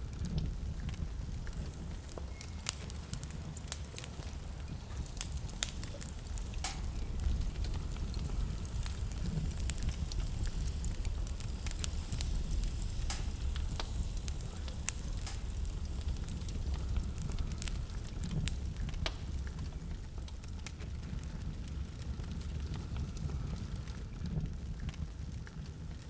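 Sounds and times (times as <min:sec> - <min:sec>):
wood fire burning: 0:00.0 - 0:26.0.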